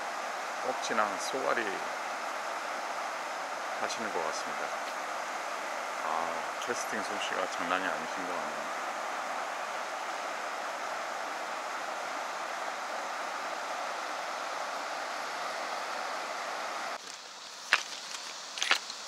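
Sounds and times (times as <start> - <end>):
river water rushing over rapids: 0.0 - 19.0.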